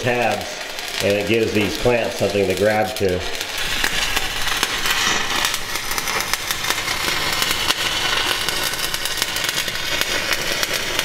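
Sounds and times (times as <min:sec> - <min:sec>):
welding arc crackling and sizzling: 0:00.0 - 0:11.0.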